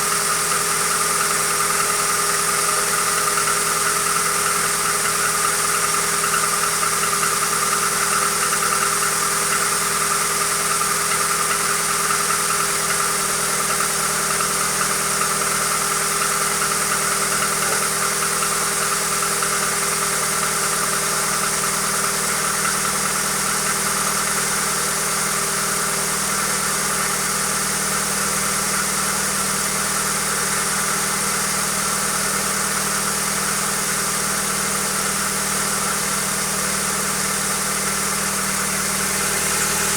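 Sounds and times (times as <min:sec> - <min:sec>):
car engine idling: 0:00.0 - 0:39.9
engine knock: 0:00.0 - 0:39.9.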